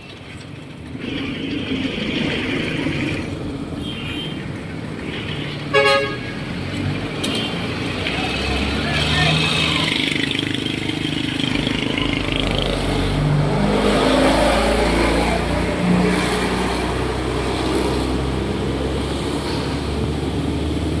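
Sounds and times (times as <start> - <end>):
truck engine passing by: 0.7 - 21.0.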